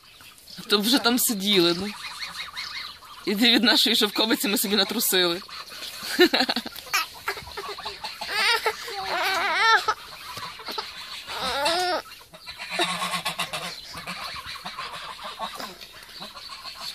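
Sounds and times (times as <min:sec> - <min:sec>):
geese honking: 0:00.0 - 0:16.9.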